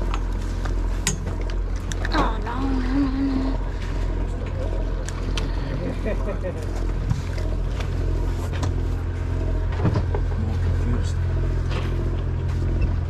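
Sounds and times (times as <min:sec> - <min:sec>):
boat machinery droning: 0:00.0 - 0:13.0.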